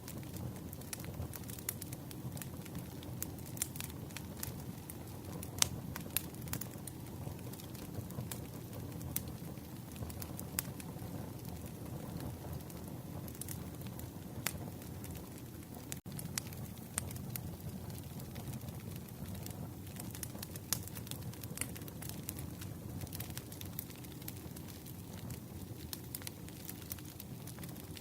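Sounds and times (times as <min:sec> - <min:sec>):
campfire crackling: 0:00.0 - 0:28.0
wood fire popping: 0:00.0 - 0:28.0.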